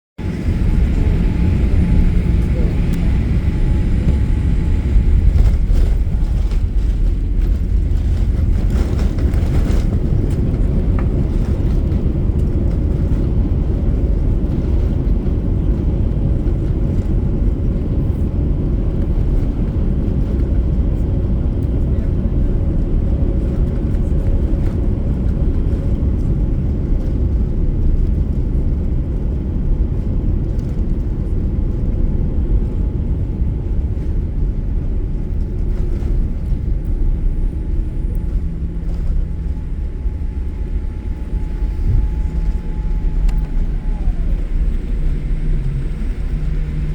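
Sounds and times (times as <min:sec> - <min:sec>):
airliner landing rumble: 0:00.2 - 0:46.9.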